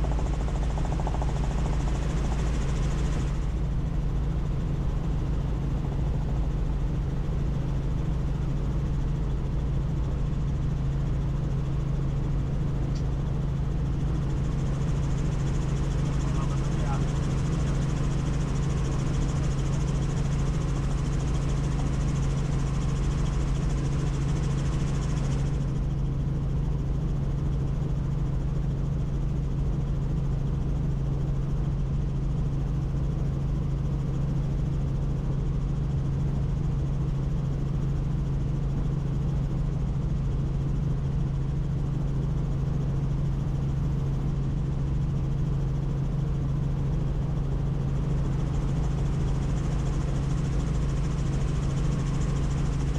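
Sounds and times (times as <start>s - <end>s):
helicopter rotor and engine drone: 0.0s - 52.9s.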